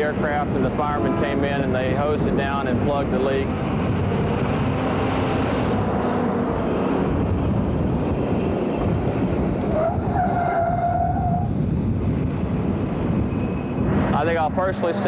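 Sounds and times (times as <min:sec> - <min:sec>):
jet engines running: 0:00.0 - 0:10.2, 0:11.5 - 0:15.0
rising engine whine: 0:00.0 - 0:15.0.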